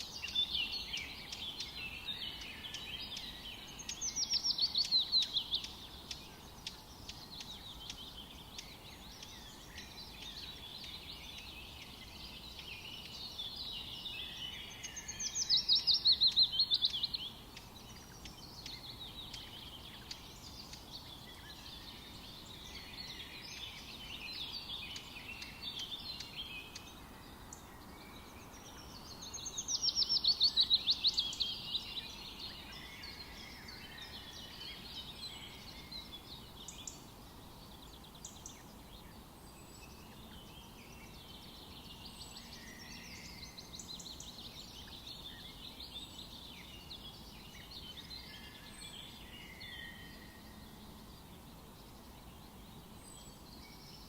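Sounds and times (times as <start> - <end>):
birds singing in forest: 0.0 - 54.0.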